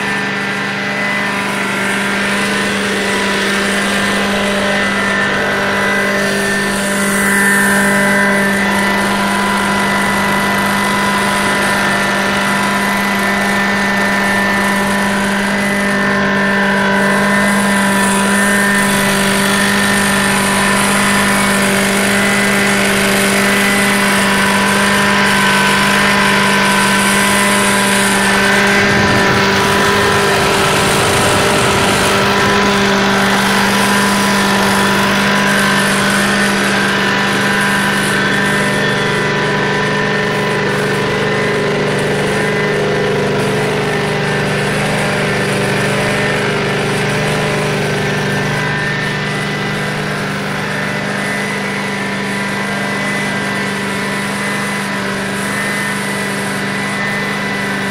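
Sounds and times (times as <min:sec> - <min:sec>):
carpet cleaning machine engine drone: 0:00.0 - 0:57.9.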